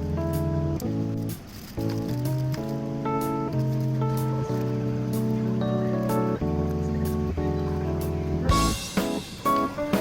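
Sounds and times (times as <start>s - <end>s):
sustained chords over steady beat: 0.0s - 1.4s, 2.4s - 10.0s
guitar: 0.0s - 10.0s.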